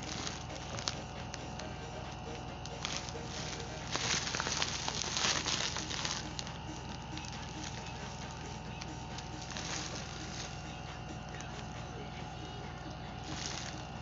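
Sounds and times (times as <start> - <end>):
plastic packaging crinkling: 0.0 - 12.3, 12.9 - 14.0
steady low hum: 0.0 - 14.0.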